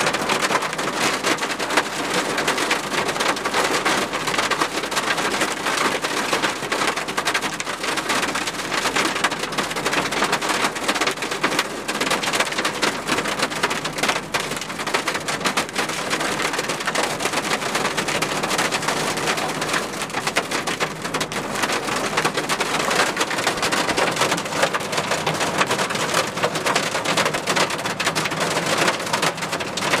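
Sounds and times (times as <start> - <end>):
hail and rain on truck roof: 0.0 - 30.0.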